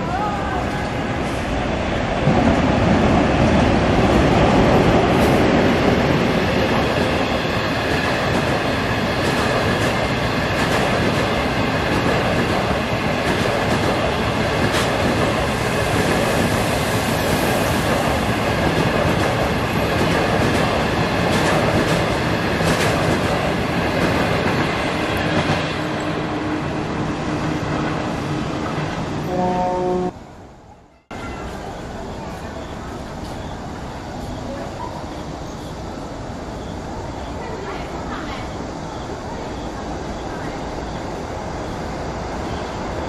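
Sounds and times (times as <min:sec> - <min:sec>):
train wheels rumbling on rail: 0:00.0 - 0:30.2, 0:31.1 - 0:43.0.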